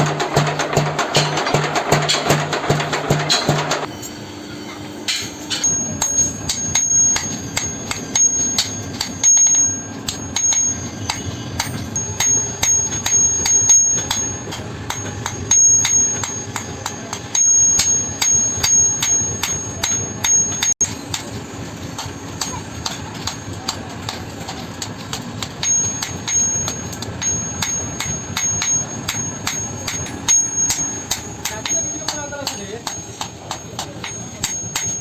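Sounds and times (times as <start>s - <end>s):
hammer striking steel on anvil: 0.0s - 4.0s, 5.1s - 35.0s.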